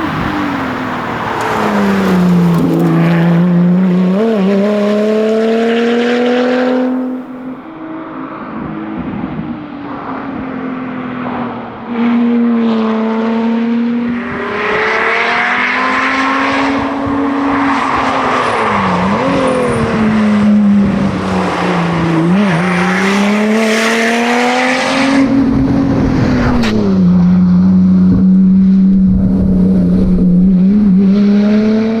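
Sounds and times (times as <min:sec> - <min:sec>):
car engine revving: 0:00.0 - 0:07.7, 0:12.8 - 0:32.0.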